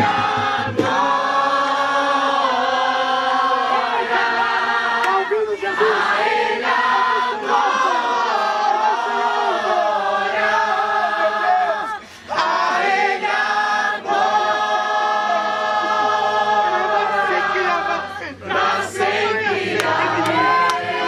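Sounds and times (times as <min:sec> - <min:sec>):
group singing worship song: 0:00.0 - 0:21.0.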